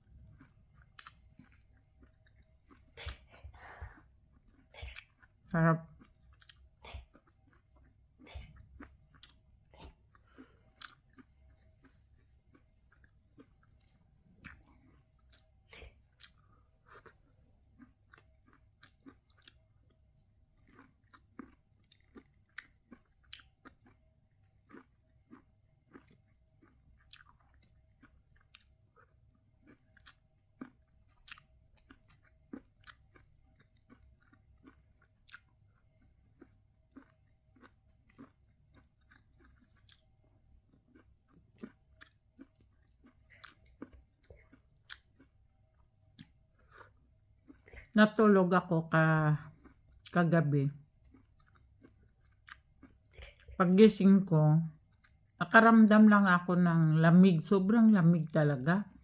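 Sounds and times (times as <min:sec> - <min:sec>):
chewing and biting corn: 0:00.0 - 0:48.0, 0:49.4 - 0:53.8, 0:54.8 - 0:55.4.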